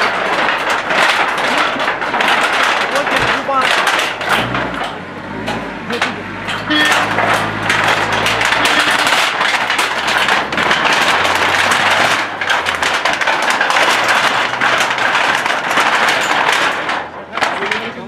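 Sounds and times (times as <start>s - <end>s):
crashing and cracking debris: 0.0s - 18.0s.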